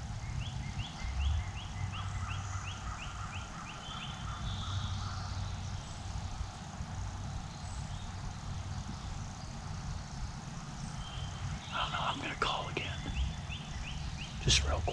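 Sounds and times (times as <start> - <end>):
low steady rumble: 0.0 - 14.9.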